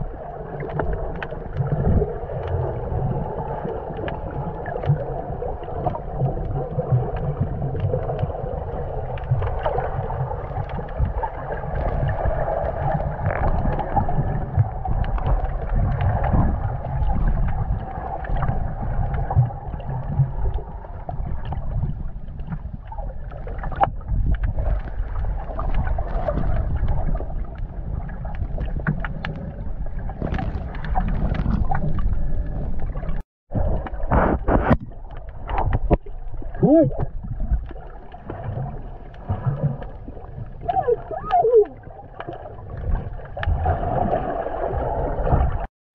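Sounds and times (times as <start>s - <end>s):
faint underwater clicks and crackles: 0.0s - 45.7s
underwater rumble of moving water: 0.0s - 45.7s.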